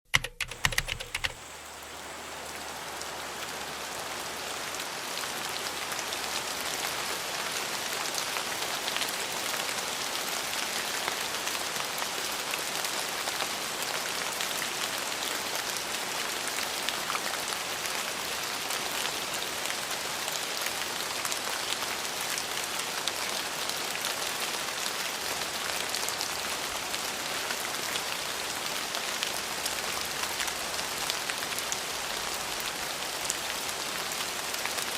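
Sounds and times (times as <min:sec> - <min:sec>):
heavy rain falling: 0:00.5 - 0:34.9.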